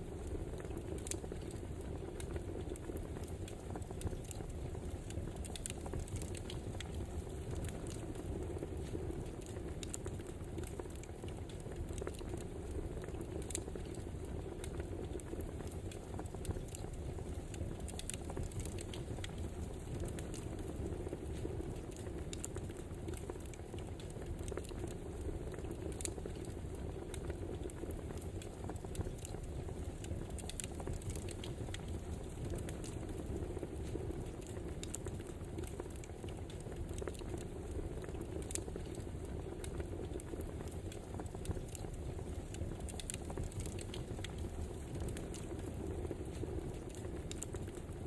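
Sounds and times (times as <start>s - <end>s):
burning logs rumbling: 0.0s - 48.0s
fire crackles and pops: 0.0s - 48.0s.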